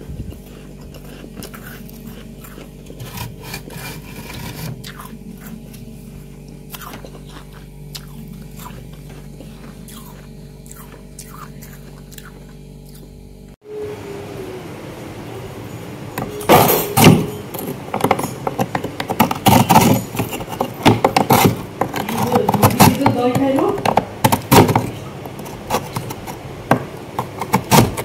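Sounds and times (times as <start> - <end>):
frost crunching: 0.0 - 13.2, 15.3 - 28.0
steady low hum: 0.0 - 28.0.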